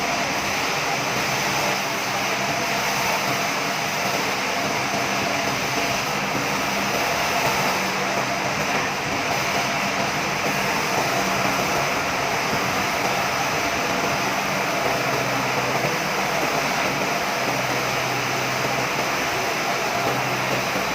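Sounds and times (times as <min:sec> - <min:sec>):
sawmill machinery whirring: 0:00.0 - 0:20.9.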